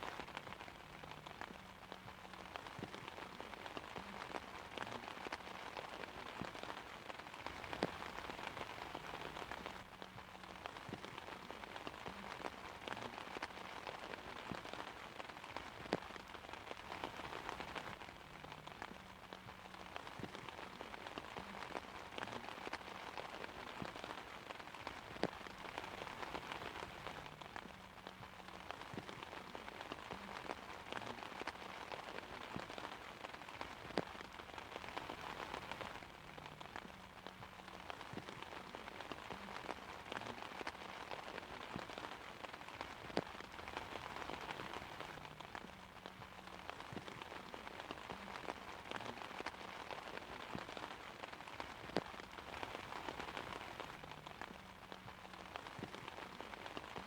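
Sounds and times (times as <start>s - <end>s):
rain on umbrella: 0.0s - 57.0s.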